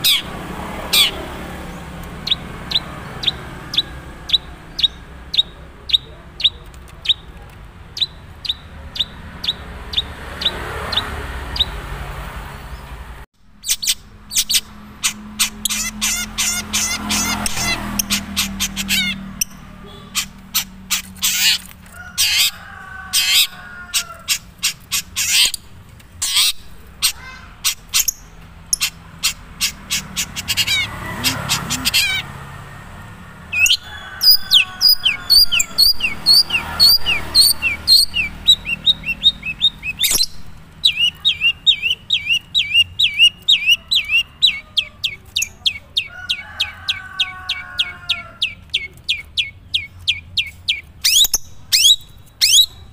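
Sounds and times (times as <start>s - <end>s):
bird singing: 0.0s - 12.0s, 12.6s - 32.5s, 33.5s - 52.9s.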